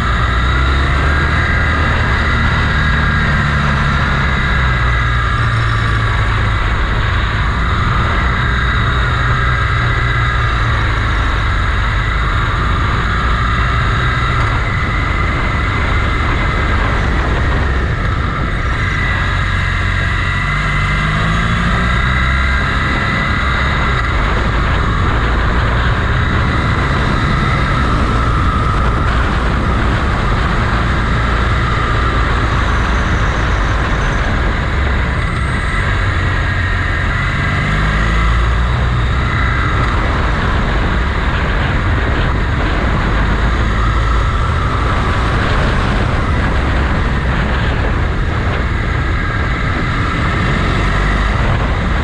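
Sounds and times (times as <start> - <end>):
motorcycle engine accelerating: 0.0 - 52.0
wind noise: 0.0 - 52.0.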